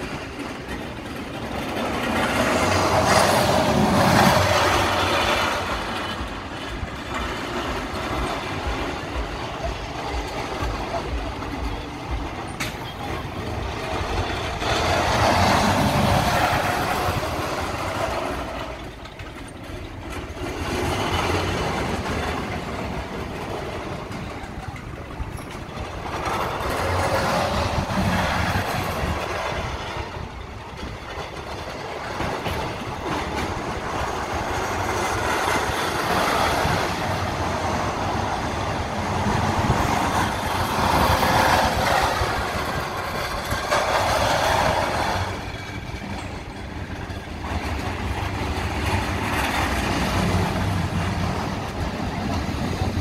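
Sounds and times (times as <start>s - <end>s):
roller coaster rumbling on track: 0.0s - 53.0s.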